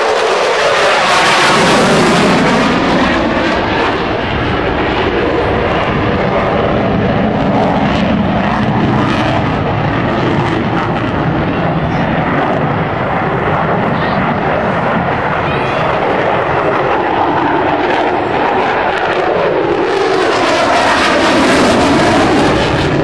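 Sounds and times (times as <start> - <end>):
jet fighter flying past: 0.0 - 23.0.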